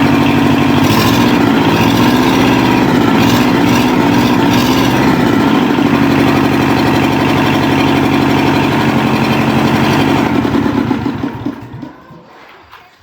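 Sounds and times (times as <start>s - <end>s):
tractor engine idling: 0.0s - 12.4s.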